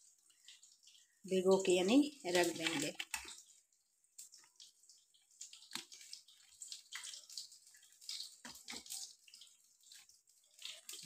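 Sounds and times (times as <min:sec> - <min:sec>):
small splashes in water: 0:00.3 - 0:11.0.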